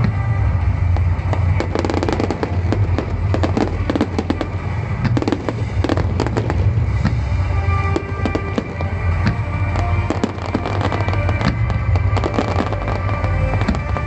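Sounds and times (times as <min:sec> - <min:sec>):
fireworks cracking and popping: 0:00.0 - 0:14.0
low rumble: 0:00.0 - 0:14.0.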